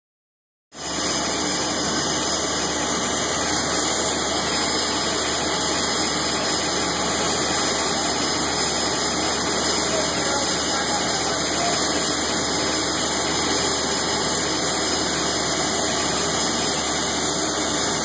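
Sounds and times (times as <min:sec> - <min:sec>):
turboprop engine idling: 0:01.0 - 0:18.0.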